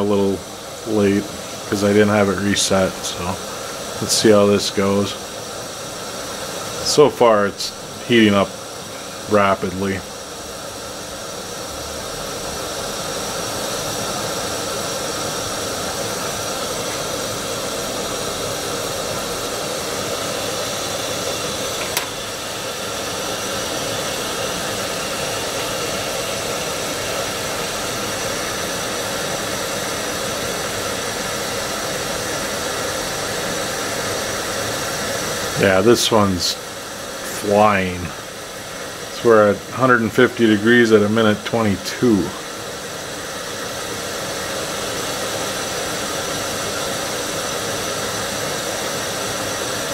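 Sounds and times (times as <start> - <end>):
gas stove burner hissing: 0.0 - 49.9.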